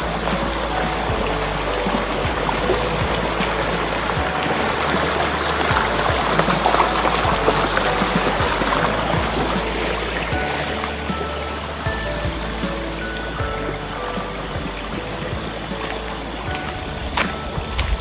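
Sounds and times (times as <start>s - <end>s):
faint music: 0.0s - 18.0s
river running over rocks: 0.0s - 18.0s.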